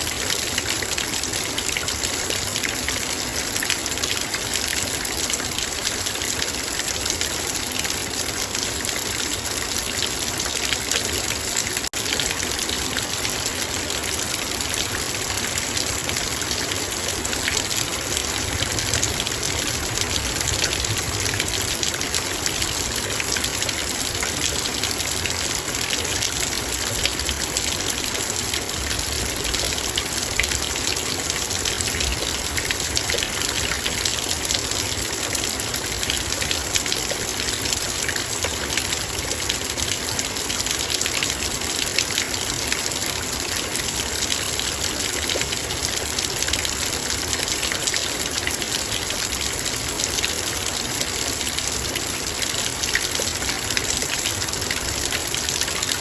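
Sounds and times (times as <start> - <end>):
rain drops on a metal bowl: 0.0 - 56.0
rain hiss: 0.0 - 56.0.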